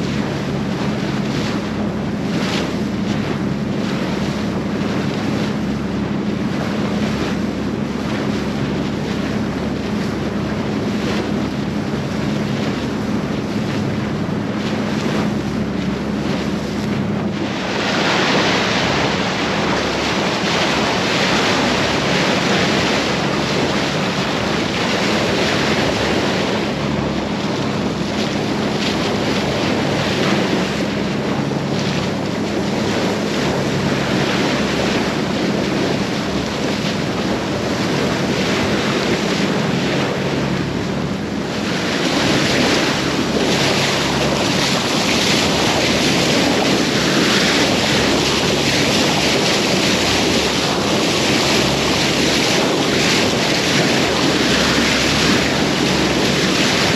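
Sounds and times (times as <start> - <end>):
boat engine droning: 0.0 - 56.9
water rushing along hull: 0.0 - 56.9
wind buffeting microphone: 0.0 - 56.9.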